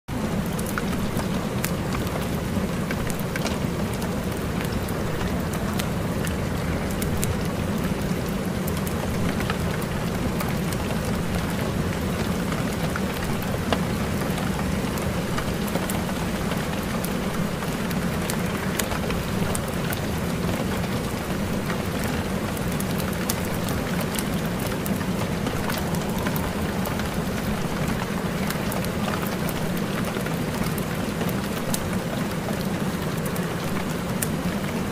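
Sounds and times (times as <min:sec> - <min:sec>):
steady rain with drop ticks: 0:00.1 - 0:34.9.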